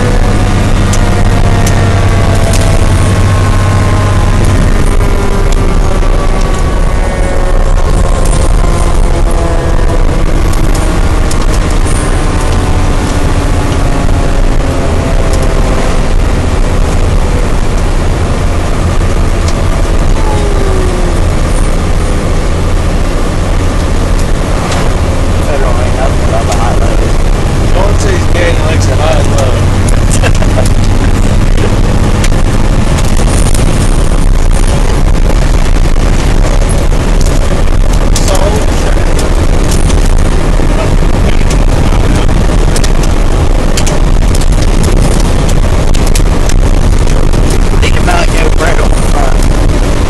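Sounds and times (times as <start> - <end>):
fire engine rumble from cab: 0.0 - 50.0.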